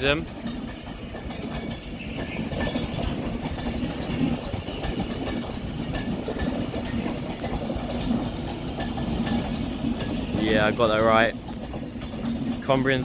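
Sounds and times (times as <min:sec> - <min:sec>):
train low hum: 0:00.0 - 0:13.0
train wheels clicking on track: 0:00.0 - 0:13.0.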